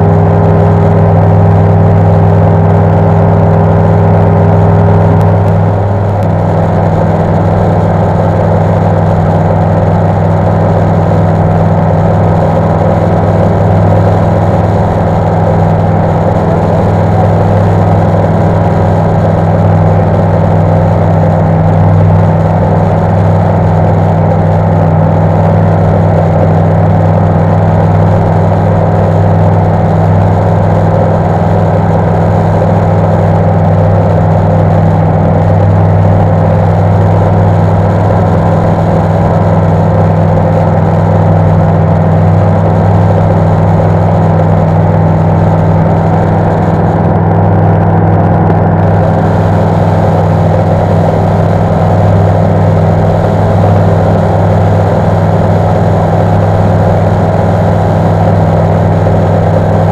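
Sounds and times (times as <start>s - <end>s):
aircraft engine droning in flight: 0.0s - 59.9s.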